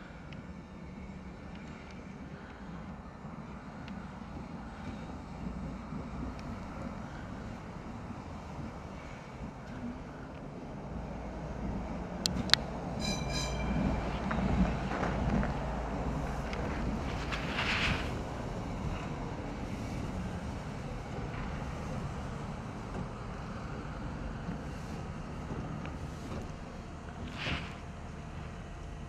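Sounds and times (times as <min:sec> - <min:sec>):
tram wheels rumbling: 0:00.0 - 0:29.0.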